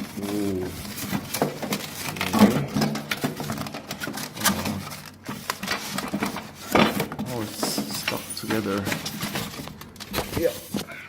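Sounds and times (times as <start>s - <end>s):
packaging and parts handled: 0.0s - 11.0s.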